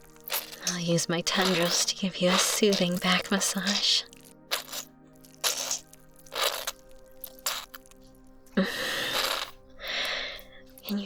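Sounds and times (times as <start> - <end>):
slime squelching: 0.0 - 11.0
soft background music: 0.0 - 11.0.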